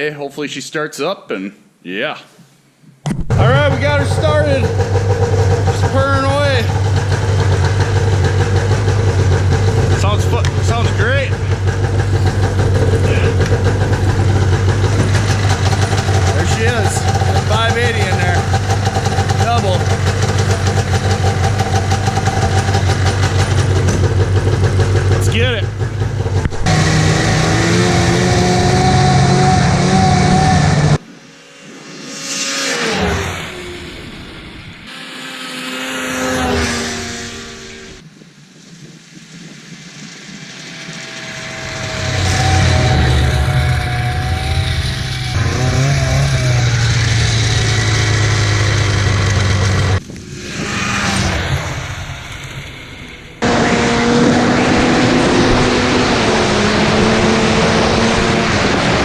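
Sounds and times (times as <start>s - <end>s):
snowmobile engine running hard: 3.3s - 59.0s.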